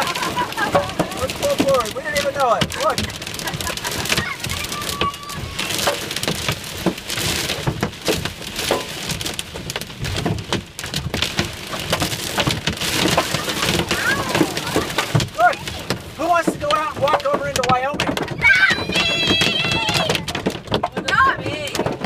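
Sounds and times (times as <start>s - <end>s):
steady rain hiss: 0.0s - 21.8s
hail clattering on car roof: 0.0s - 22.0s.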